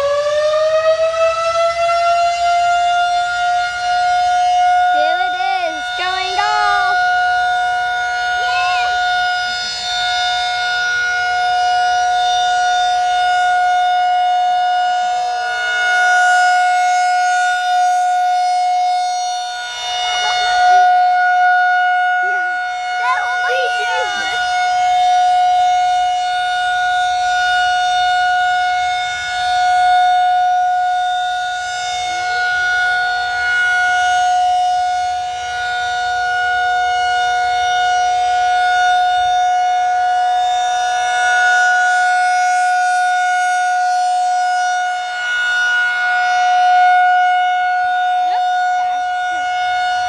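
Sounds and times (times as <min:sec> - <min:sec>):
warning siren steady tone: 0:00.0 - 0:50.0.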